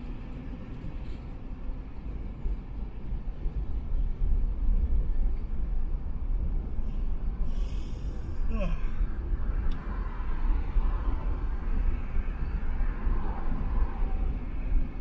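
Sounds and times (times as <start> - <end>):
tyre and wind noise: 0.0 - 15.0.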